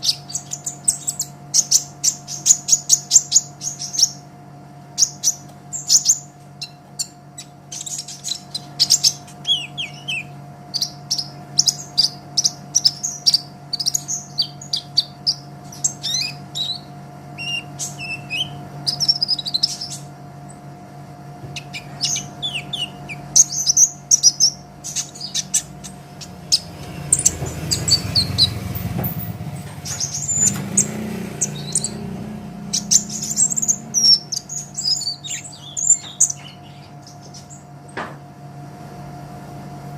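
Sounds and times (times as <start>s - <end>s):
bird chirping and twittering: 0.0s - 4.3s, 4.9s - 20.7s, 21.4s - 37.8s
steady low hum: 0.0s - 39.9s.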